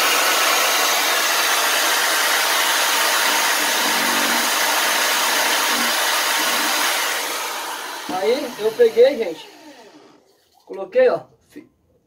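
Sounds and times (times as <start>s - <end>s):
electric drill whirring: 0.0s - 10.2s.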